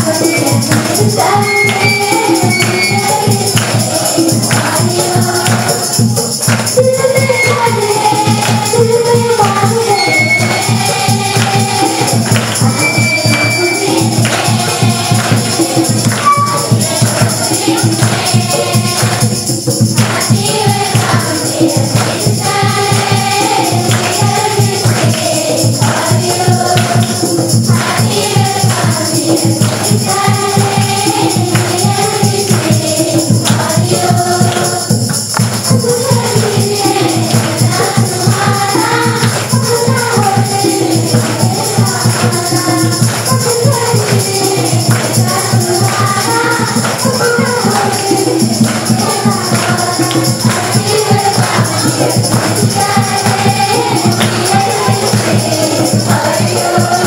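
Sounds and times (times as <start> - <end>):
children singing in unison: 0.0 - 57.0
shaken percussion beat: 0.0 - 57.0.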